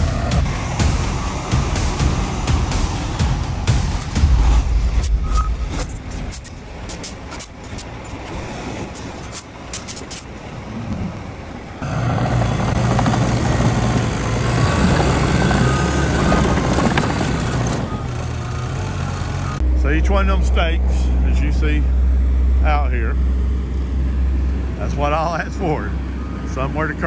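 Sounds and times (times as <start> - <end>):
dozer diesel engine running: 0.0 - 27.0
heavy truck engine: 0.0 - 27.0.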